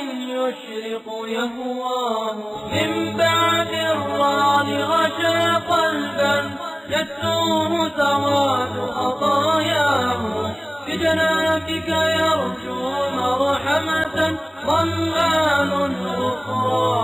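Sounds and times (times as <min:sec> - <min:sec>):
voice chanting: 0:00.0 - 0:17.0.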